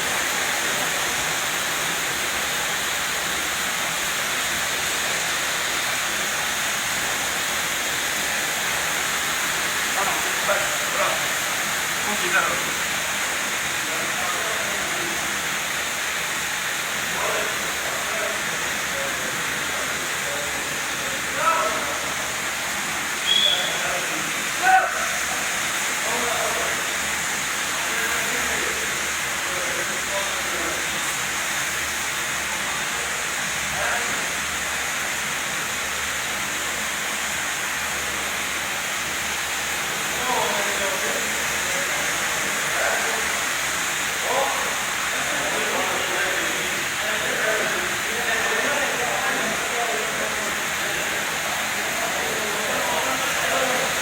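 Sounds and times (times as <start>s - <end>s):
carpet washing machine running: 0.0s - 54.0s
water spraying: 0.0s - 54.0s.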